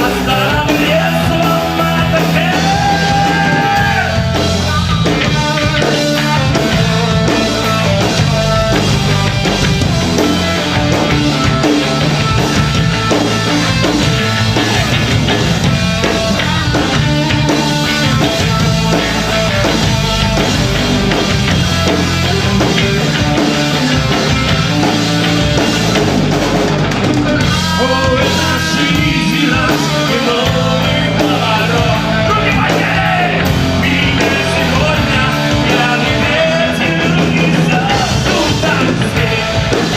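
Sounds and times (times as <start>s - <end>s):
drum kit: 0.0s - 39.9s
rock band playing live: 0.0s - 39.9s.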